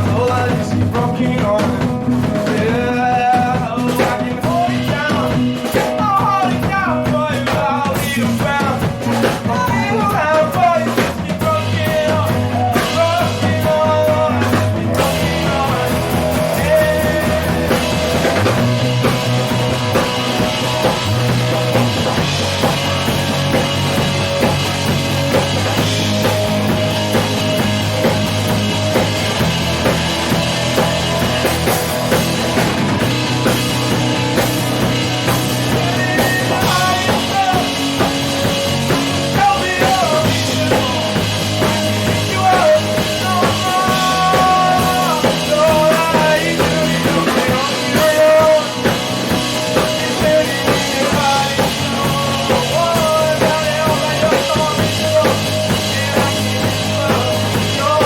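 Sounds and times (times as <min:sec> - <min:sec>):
drum kit: 0:00.0 - 0:58.0
melodic lead line: 0:00.0 - 0:58.0
sustained bass: 0:00.0 - 0:58.0.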